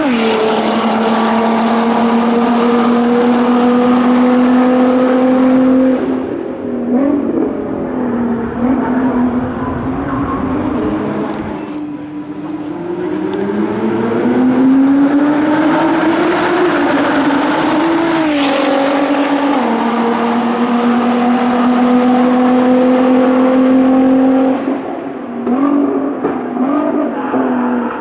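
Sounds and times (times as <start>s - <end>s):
car engine accelerating past: 0.0s - 6.3s, 6.9s - 28.0s
engine revs: 0.0s - 28.0s.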